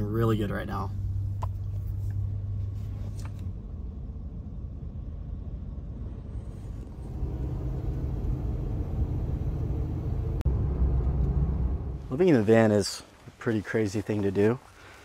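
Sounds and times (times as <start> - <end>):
van engine and road noise: 0.0 - 14.8.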